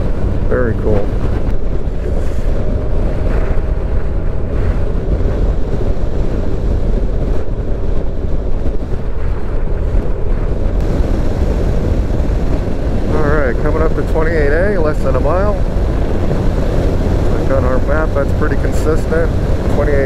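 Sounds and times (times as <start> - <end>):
motorcycle running: 0.0 - 20.0
wind noise on microphone: 0.0 - 20.0.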